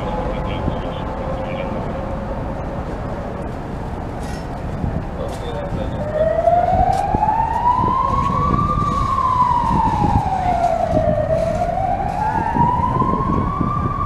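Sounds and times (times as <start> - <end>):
siren wailing: 0.0 - 3.2, 5.6 - 14.0
low street rumble: 0.0 - 14.0.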